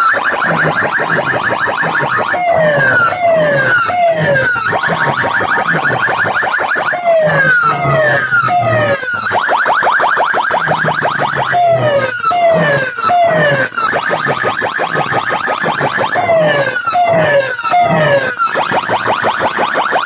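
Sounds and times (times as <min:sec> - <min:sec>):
falling siren wails: 0:00.0 - 0:20.0
fast warbling siren chirp: 0:00.0 - 0:20.0
low pulse: 0:00.4 - 0:09.4, 0:10.4 - 0:19.3.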